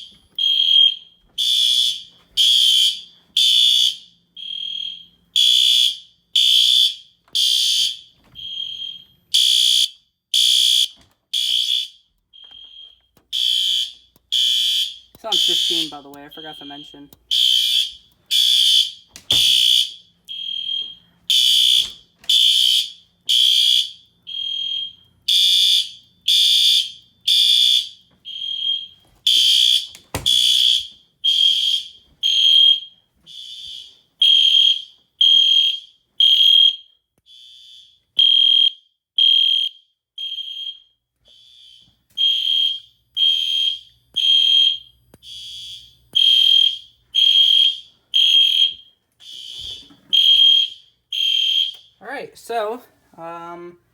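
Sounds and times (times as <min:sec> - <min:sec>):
fire alarm horn blasts: 0:00.0 - 0:52.8.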